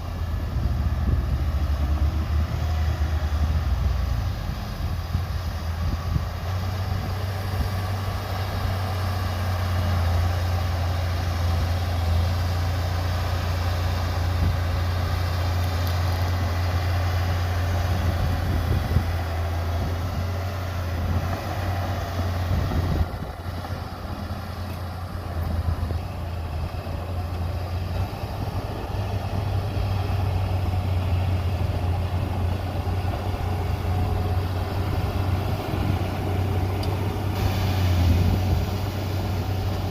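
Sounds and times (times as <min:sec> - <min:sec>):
diesel machinery engine droning: 0:00.0 - 0:39.9.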